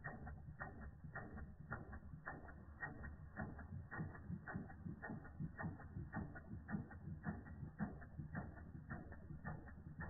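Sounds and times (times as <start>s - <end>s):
steam engine running hum: 0.0s - 10.0s
toy steam engine clicking: 0.0s - 10.0s.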